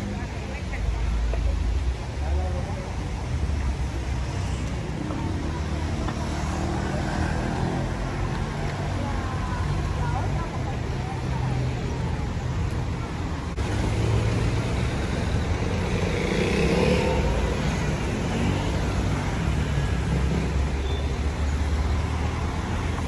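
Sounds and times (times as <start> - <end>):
cars driving past: 1.7 - 11.9, 12.9 - 23.0.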